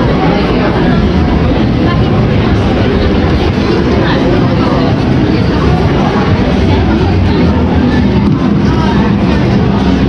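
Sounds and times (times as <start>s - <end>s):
crowd voices: 0.0s - 10.0s
heavy bass: 0.0s - 10.0s
loud amplified music: 0.0s - 10.0s.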